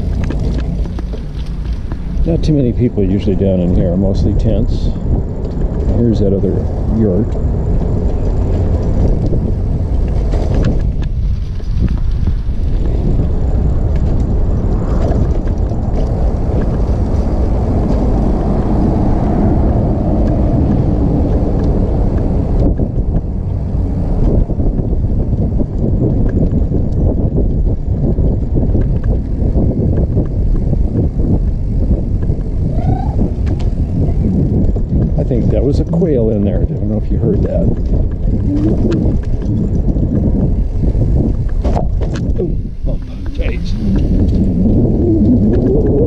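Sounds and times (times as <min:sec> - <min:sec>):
trike rolling on a paved road: 0:00.0 - 0:46.0
wind buffeting the microphone: 0:00.0 - 0:46.0.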